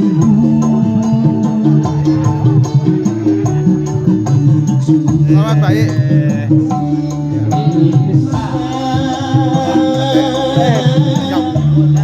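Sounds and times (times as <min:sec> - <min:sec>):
hand-drum beat: 0:00.0 - 0:12.0
person singing: 0:00.0 - 0:12.0
wavering melody line: 0:00.0 - 0:12.0.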